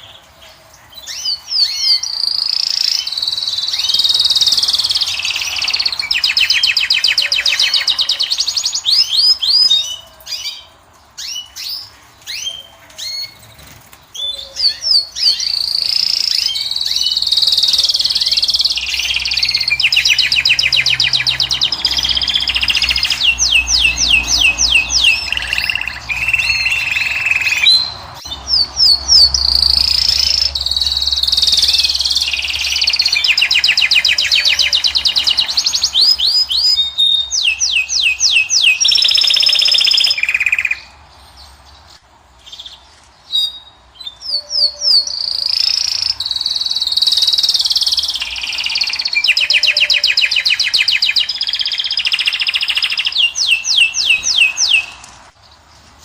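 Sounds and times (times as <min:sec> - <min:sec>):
goldfinch twittering song: 0:00.0 - 0:55.7.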